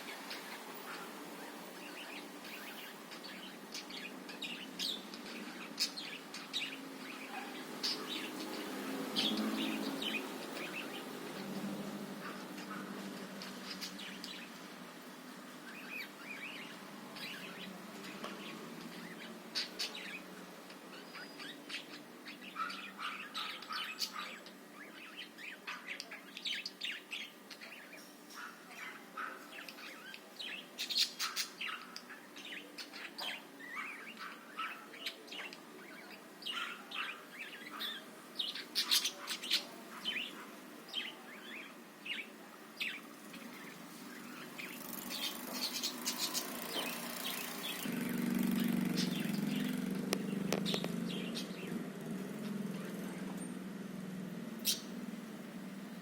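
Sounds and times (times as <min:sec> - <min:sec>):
budgerigars chirping: 0:00.1 - 0:11.6, 0:12.2 - 0:14.6, 0:15.6 - 0:20.3, 0:20.9 - 0:47.9, 0:48.6 - 0:51.8, 0:54.6 - 0:55.0.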